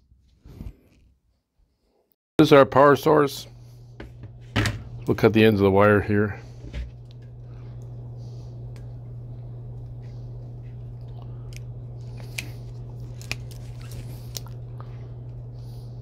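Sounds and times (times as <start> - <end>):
low hum: 2.8 - 16.0.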